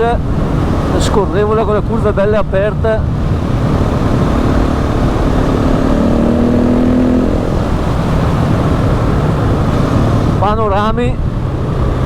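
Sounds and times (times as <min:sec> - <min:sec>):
loud rushing noise: 0:00.2 - 0:10.6
motorcycle engine running: 0:00.2 - 0:10.6.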